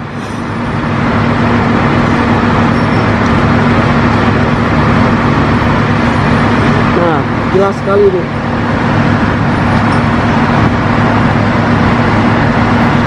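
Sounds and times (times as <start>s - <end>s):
tracked machine engine running: 0.0s - 13.0s.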